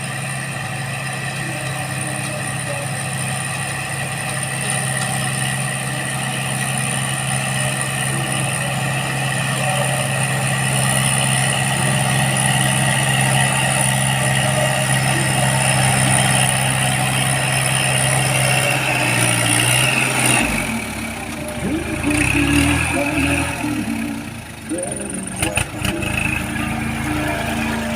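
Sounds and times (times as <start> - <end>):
heavy vehicle engine running: 0.0 - 27.9.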